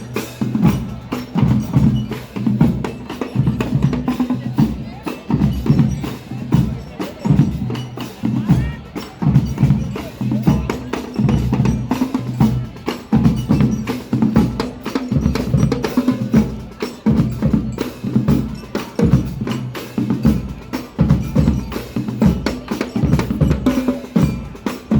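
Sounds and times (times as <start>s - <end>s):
bass drums: 0.0s - 24.9s.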